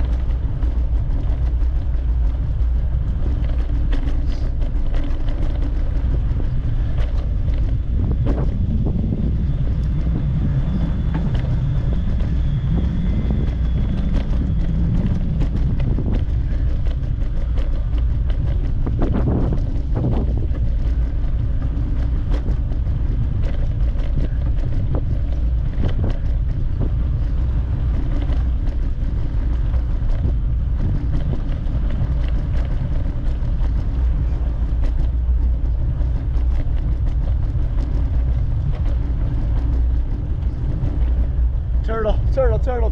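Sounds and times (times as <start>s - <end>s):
knocks and rattles: 0.0s - 42.9s
wind rumble on microphone: 0.0s - 42.9s.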